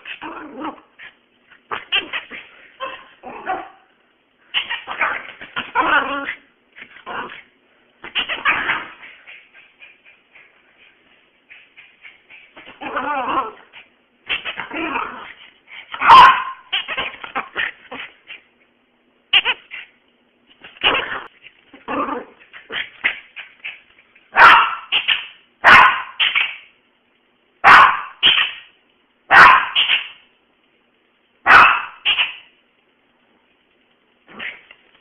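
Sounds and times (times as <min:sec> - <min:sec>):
small dog barking and yipping: 0:00.0 - 0:03.9, 0:04.5 - 0:18.5, 0:20.6 - 0:26.7, 0:27.6 - 0:30.2, 0:31.4 - 0:32.5, 0:34.3 - 0:34.7.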